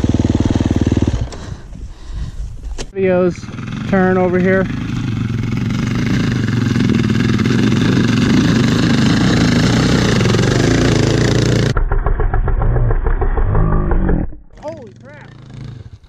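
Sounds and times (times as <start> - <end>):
dirt bike engines revving: 0.0 - 2.3, 2.9 - 11.8, 12.5 - 16.0.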